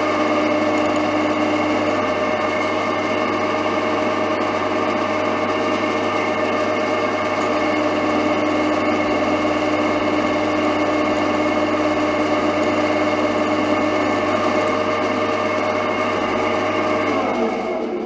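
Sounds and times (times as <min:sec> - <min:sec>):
drill cutting into steel: 0:00.0 - 0:18.0.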